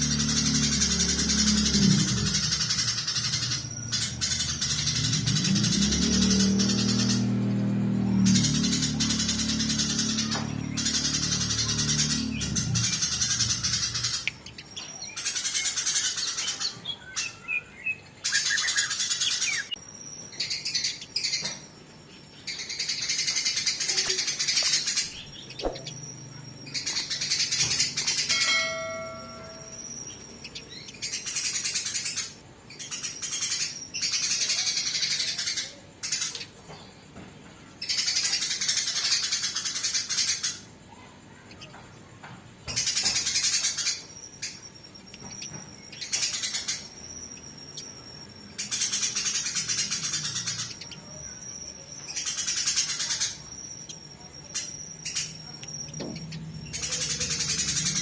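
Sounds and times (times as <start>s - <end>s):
sparrows chattering harshly: 0.0s - 58.0s.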